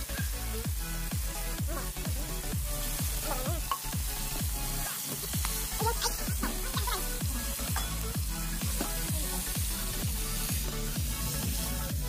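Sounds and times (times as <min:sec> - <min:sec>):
chicken sizzling in hot oil: 0:00.0 - 0:12.0
electronic dance music: 0:00.0 - 0:12.0.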